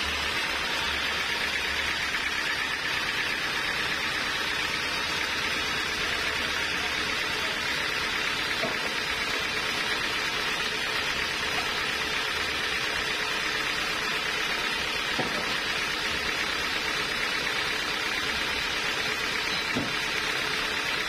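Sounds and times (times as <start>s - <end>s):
sawmill machinery whirring: 0.0s - 21.0s.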